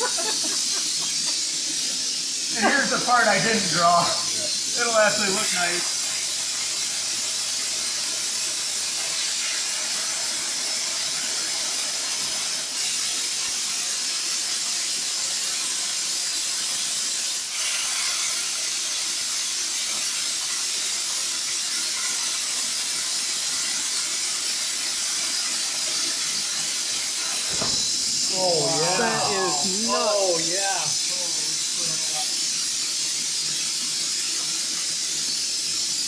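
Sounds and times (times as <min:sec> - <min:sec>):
plasma cutting torch hissing: 0:00.0 - 0:36.0.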